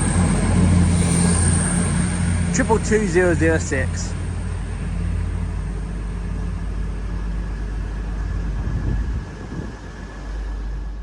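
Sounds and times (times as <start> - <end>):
diesel train engines droning: 0.0 - 11.0.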